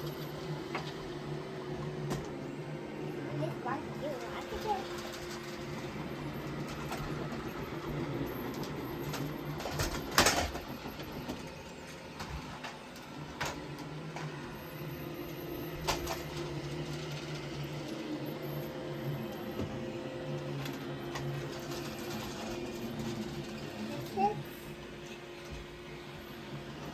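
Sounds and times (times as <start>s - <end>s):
robot vacuum motor hum: 0.0s - 26.9s.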